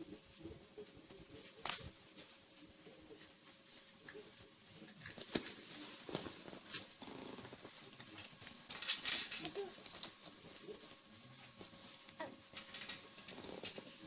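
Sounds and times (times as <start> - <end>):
light clicks and rustles of toys: 0.3 - 14.0.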